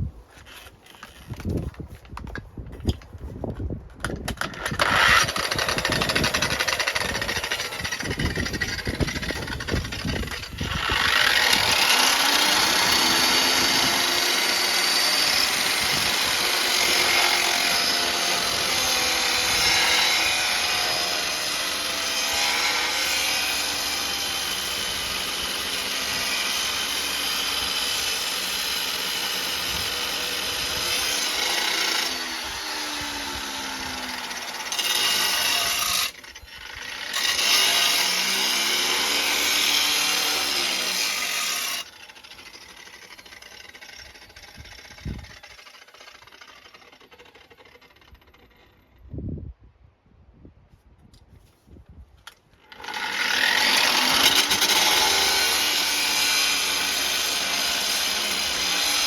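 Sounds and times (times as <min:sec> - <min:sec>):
angle grinder cutting pipe: 0:04.2 - 0:48.8, 0:52.6 - 0:59.0.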